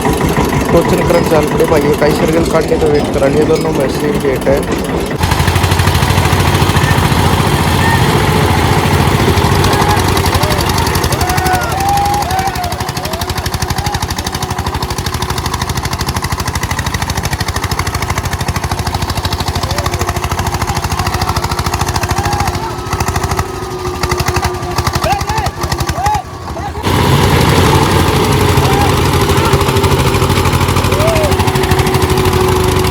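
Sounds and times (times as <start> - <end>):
tractor diesel engines thudding: 0.0 - 32.9.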